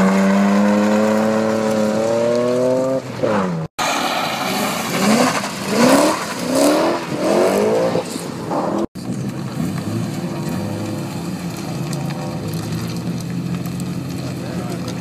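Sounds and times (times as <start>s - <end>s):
drag car engines revving: 0.0s - 15.0s.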